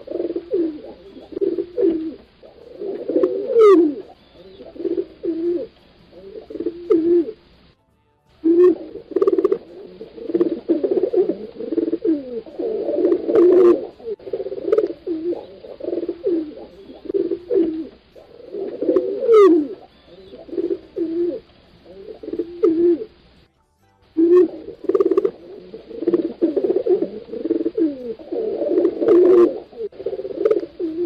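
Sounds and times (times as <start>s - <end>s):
pigeons cooing: 0.0s - 7.6s, 8.4s - 23.4s, 24.2s - 31.0s.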